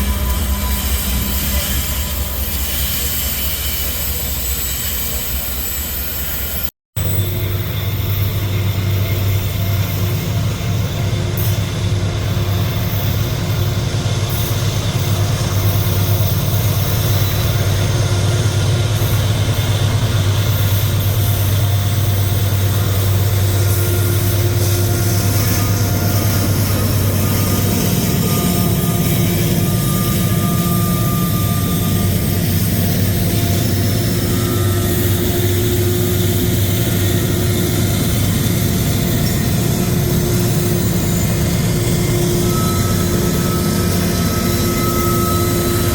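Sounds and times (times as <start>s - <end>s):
diesel locomotive engine drone: 0.0s - 45.9s.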